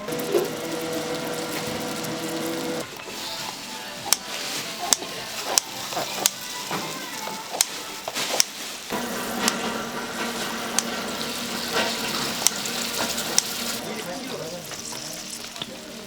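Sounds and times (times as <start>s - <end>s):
food sizzling: 0.0s - 16.0s
metal utensils clinking: 0.0s - 16.0s.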